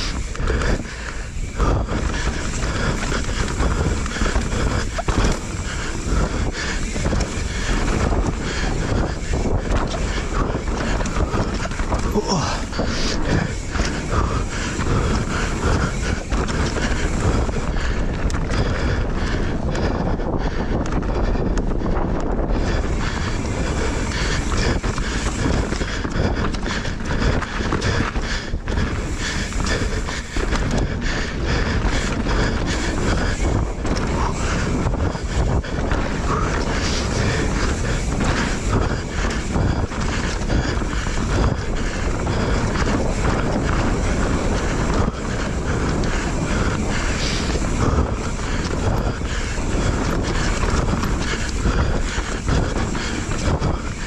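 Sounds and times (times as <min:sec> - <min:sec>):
bike chain and frame rattling: 0:00.0 - 0:54.0
bike tyres crunching over stones: 0:00.0 - 0:54.0
wind buffeting microphone: 0:00.0 - 0:54.0.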